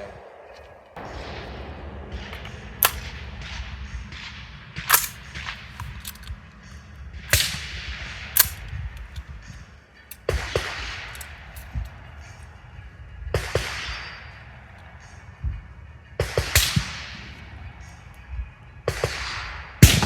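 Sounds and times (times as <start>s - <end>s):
gunshots: 0.0s - 9.4s, 10.1s - 12.6s, 13.3s - 15.2s, 16.2s - 18.2s, 18.8s - 20.0s.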